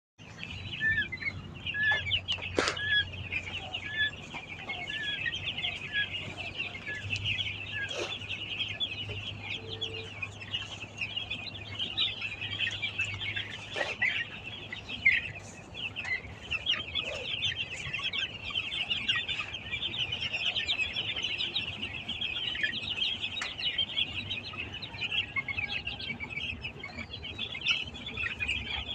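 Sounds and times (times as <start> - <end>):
chicks peeping: 0.2 - 28.9.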